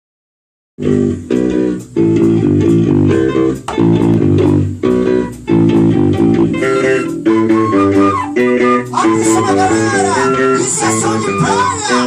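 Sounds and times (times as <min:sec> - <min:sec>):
guitar and bass playing chords: 0:00.8 - 0:12.0.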